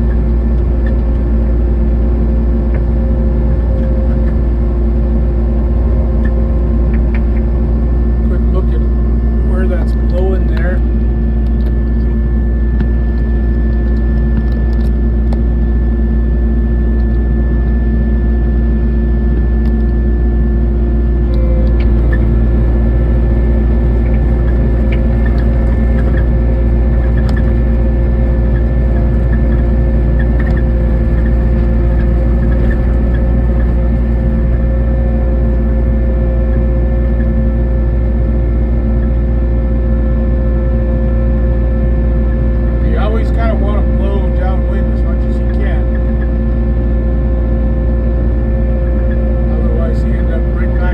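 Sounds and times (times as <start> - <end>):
diesel engine running: 0.0 - 50.9
high steady whine: 0.0 - 50.9.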